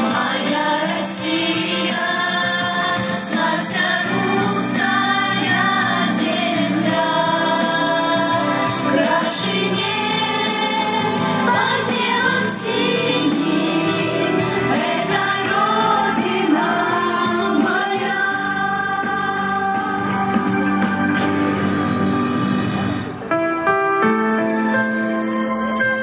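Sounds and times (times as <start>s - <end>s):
instrumental backing: 0.0s - 26.0s.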